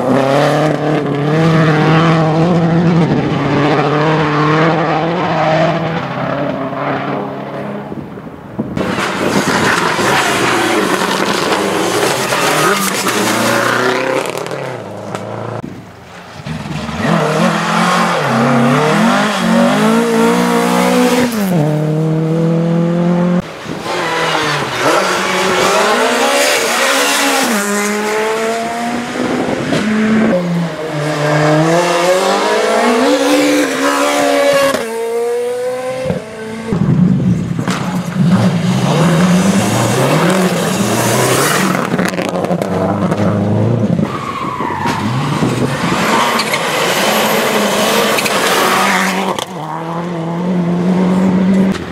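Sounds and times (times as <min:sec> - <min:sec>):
rally car engines revving: 0:00.0 - 0:51.9.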